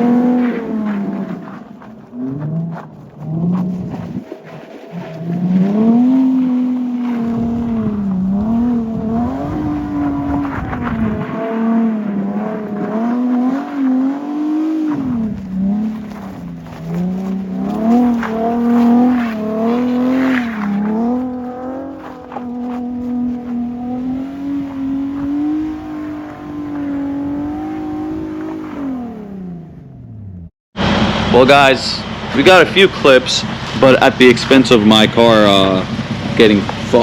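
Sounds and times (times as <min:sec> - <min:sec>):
car engine revving hard: 0:00.0 - 0:04.2, 0:04.9 - 0:31.3.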